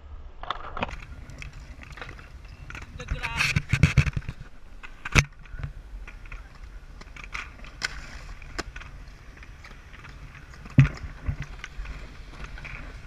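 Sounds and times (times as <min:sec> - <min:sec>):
skate wheels rolling on concrete: 0:00.3 - 0:13.0.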